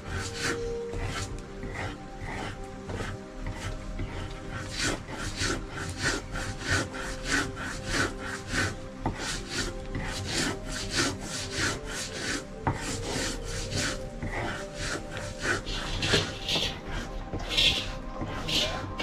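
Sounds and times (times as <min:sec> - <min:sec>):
rasping strokes against wood: 0:00.0 - 0:19.0.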